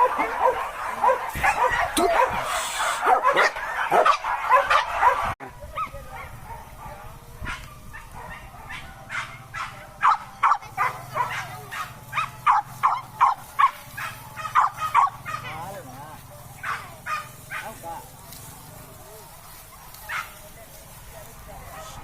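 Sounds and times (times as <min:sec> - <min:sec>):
hunting dogs barking and yelping: 0:00.0 - 0:22.0.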